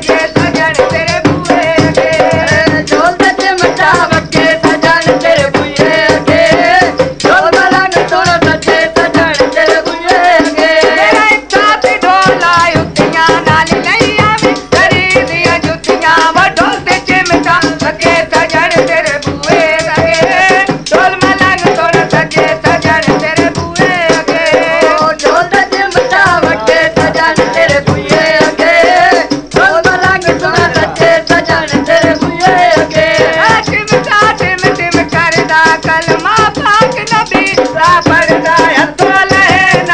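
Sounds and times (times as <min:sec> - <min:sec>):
dhol drum rhythm: 0:00.0 - 0:39.9.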